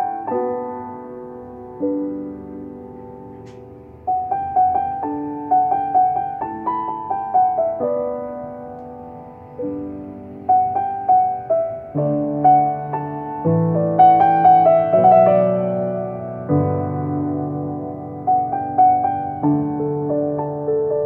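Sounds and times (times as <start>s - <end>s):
grand piano playing slow tune: 0.0s - 21.0s.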